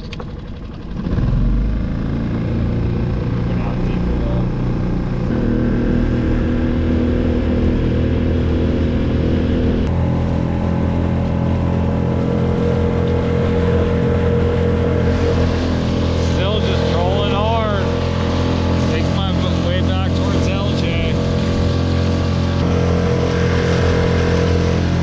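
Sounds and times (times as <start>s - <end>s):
outboard motor running at high speed: 0.0s - 25.0s
water rushing along hull: 0.0s - 25.0s.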